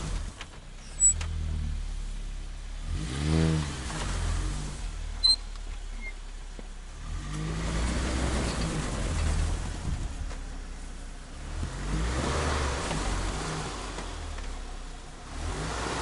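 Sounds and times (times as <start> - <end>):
engine revving: 0.0 - 5.4, 6.9 - 10.3, 11.3 - 16.0.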